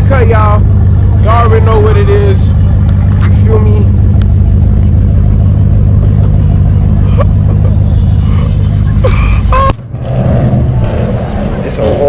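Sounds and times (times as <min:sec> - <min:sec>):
motor vehicle droning: 0:00.0 - 0:12.0.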